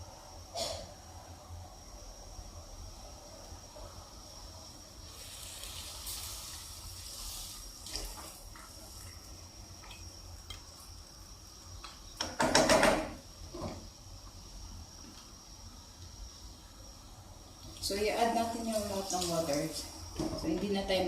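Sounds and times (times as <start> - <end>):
soft hiss: 0.0 - 12.2, 13.1 - 21.0.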